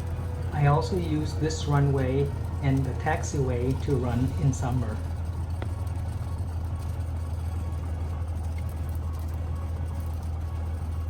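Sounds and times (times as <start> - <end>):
light aircraft engine drone: 0.0 - 11.0.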